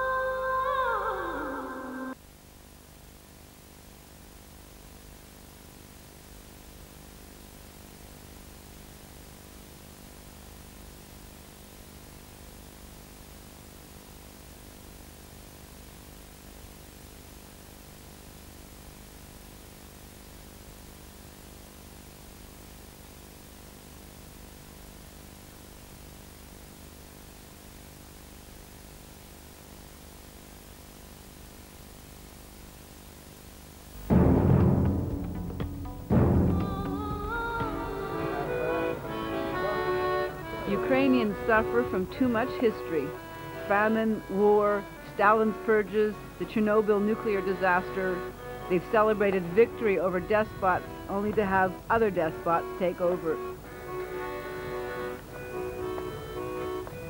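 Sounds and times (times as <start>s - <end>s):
low mains hum: 0.0s - 57.0s
tape hiss: 0.0s - 57.0s.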